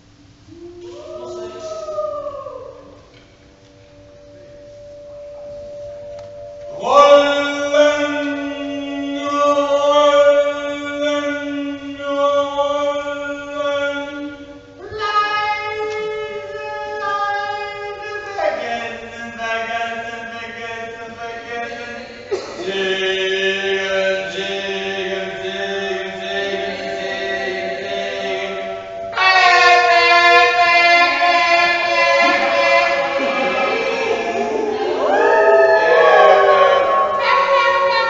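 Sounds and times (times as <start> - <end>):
man intoning sustained vocal tones: 6.7 - 38.0.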